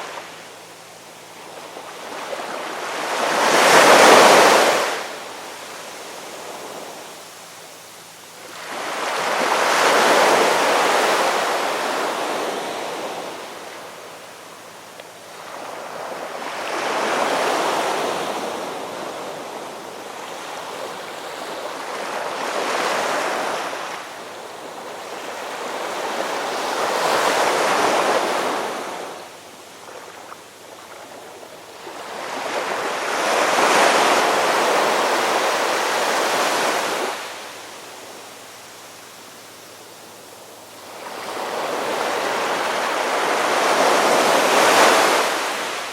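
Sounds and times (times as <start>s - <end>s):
ocean waves washing onto shore: 0.0s - 45.9s.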